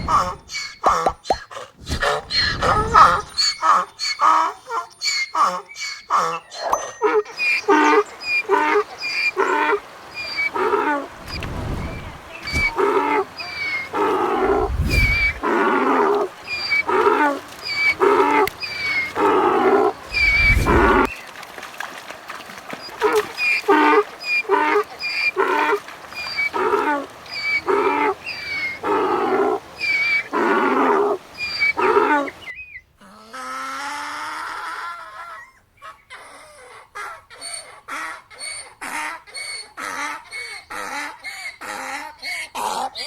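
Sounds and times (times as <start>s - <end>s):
donkey braying: 0.0s - 11.2s, 12.1s - 21.1s, 22.8s - 43.0s.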